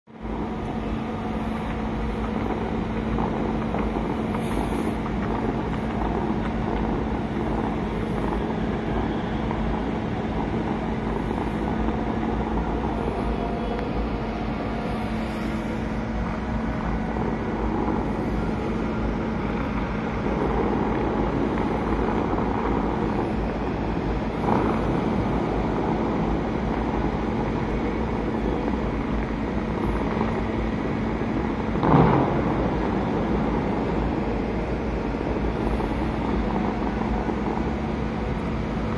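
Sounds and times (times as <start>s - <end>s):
low hum: 0.0s - 38.9s
distant city traffic: 0.1s - 38.9s.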